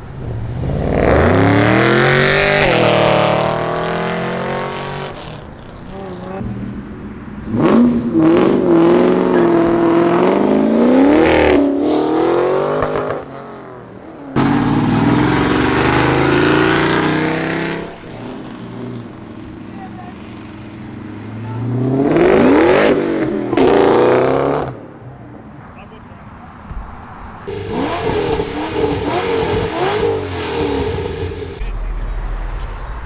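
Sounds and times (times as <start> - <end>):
car engine revving: 0.0 - 25.0, 27.2 - 33.0.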